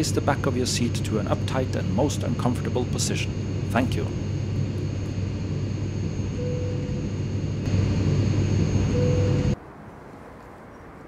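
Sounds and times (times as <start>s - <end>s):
jet engine high whine: 0.0s - 9.6s
jet engine rumble: 0.0s - 9.6s.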